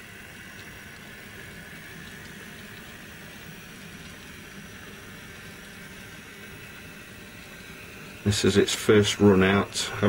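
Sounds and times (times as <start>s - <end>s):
faint whine: 0.0s - 10.0s.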